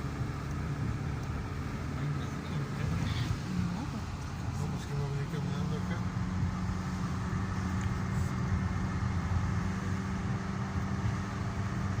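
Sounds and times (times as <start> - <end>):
road noise: 0.0 - 12.0
road vehicle engine hum: 0.0 - 12.0.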